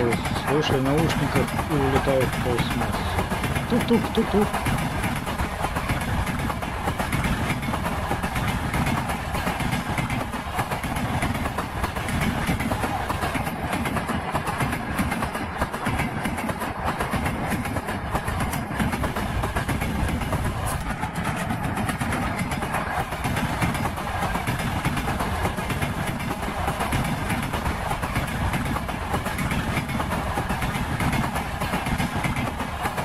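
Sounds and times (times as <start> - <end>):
train wheels knocking on rails: 0.0 - 33.0.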